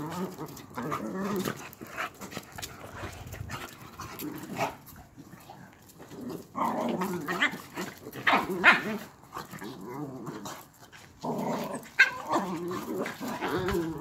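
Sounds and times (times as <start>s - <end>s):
dogs growling: 0.0s - 14.0s.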